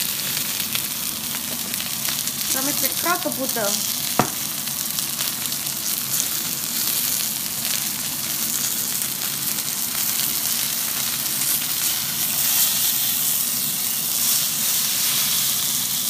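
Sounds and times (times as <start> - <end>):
steak sizzling in a pan: 0.0 - 16.0.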